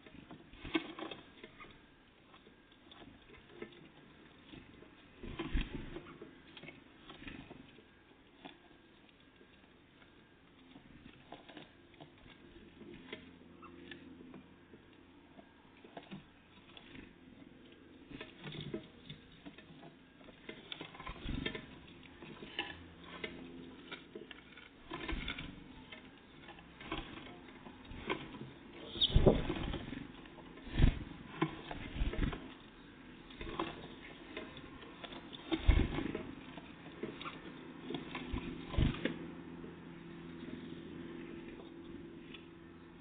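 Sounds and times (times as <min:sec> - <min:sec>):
birds pecking and tapping: 0:00.1 - 0:39.8.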